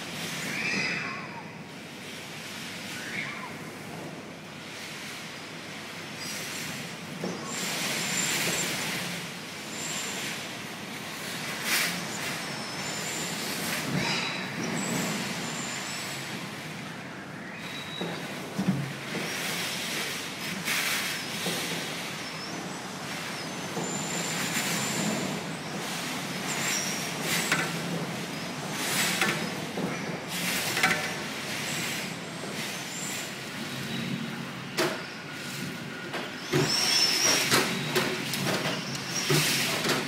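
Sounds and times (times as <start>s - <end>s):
thin wind whistles: 0.0s - 40.0s.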